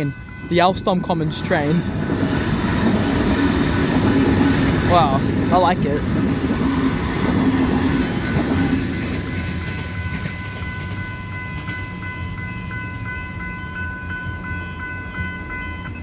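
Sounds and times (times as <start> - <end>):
level crossing bells ringing: 0.0 - 6.2, 7.9 - 16.0
electric train rumble: 0.0 - 16.0.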